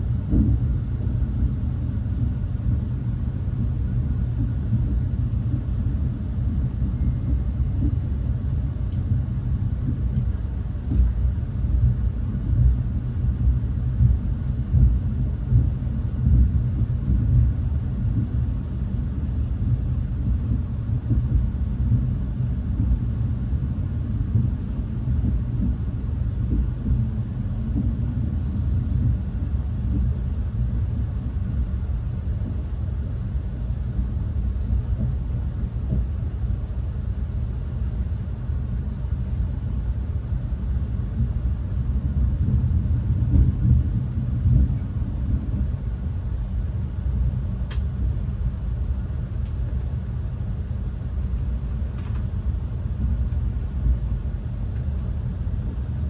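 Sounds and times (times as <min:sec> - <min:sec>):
train rumble from inside car: 0:00.0 - 0:56.0.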